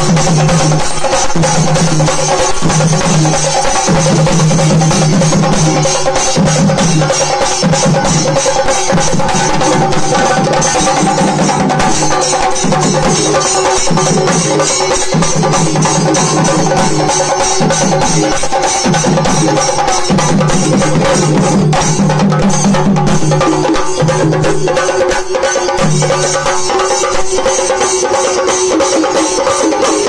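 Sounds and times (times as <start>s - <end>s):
drums beaten with sticks: 0.0s - 30.0s.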